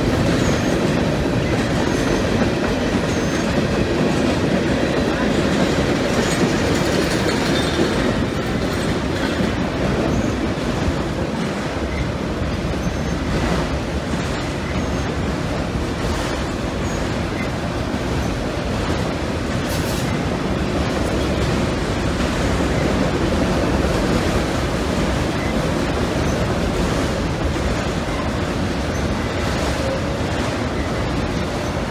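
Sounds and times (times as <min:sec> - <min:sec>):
steel wheels on rails: 0:00.0 - 0:31.9.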